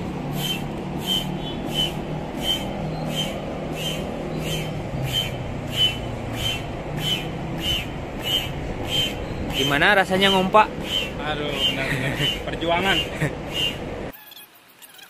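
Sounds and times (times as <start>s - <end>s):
manual air pump hissing and whistling: 0.3s - 13.8s.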